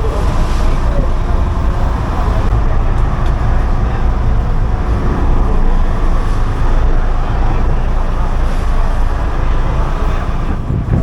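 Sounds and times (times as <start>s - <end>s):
boat engine rumbling: 0.0s - 11.0s
water noise: 0.0s - 11.0s
wind: 0.0s - 11.0s.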